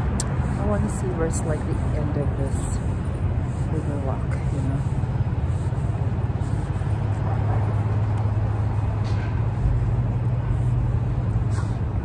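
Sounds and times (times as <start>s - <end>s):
city noise: 0.0s - 12.0s
low engine hum: 0.0s - 12.0s.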